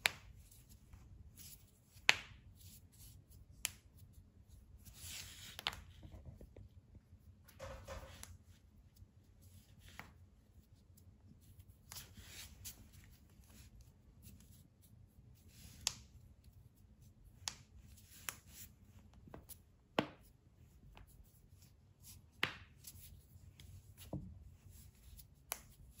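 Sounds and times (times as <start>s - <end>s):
rustling of hands and clothing: 0.0s - 26.0s.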